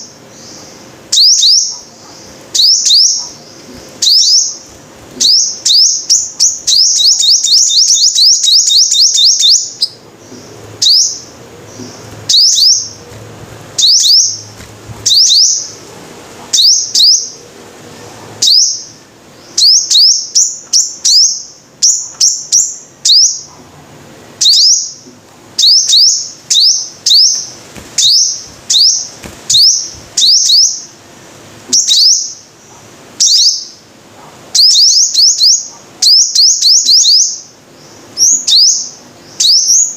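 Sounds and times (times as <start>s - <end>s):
bird high sharp chirps: 0.0s - 13.2s, 13.8s - 15.8s, 16.5s - 17.4s, 18.4s - 23.5s, 24.4s - 25.0s, 25.6s - 30.9s, 31.7s - 32.5s, 33.2s - 33.8s, 34.6s - 39.9s.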